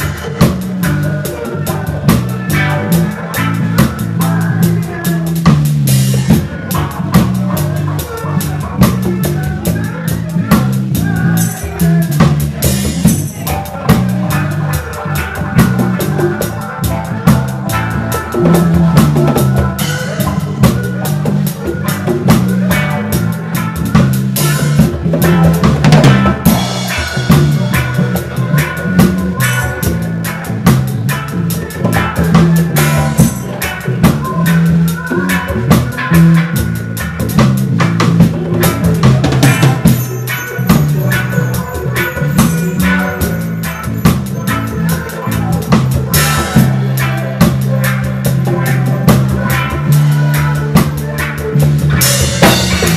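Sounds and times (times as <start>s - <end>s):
bass line: 0.0s - 52.9s
drum kit hits: 0.0s - 52.9s
reggae band playing: 0.0s - 52.9s.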